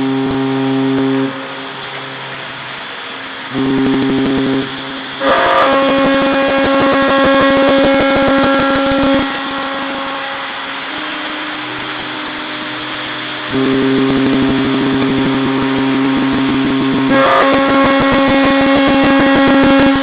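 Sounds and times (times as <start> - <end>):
high ship horn blast: 0.0 - 20.0
low ship horn blast: 0.0 - 20.0.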